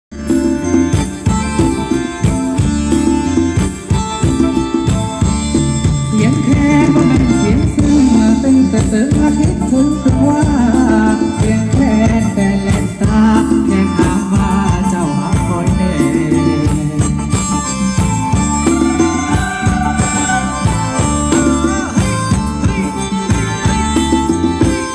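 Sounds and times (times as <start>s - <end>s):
live band playing folk dance music: 0.1s - 24.9s.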